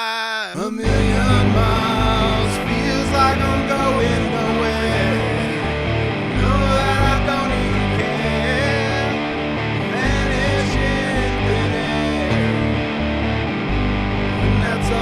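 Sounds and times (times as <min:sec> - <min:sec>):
rock guitar: 0:00.8 - 0:15.0
bass line: 0:00.9 - 0:15.0.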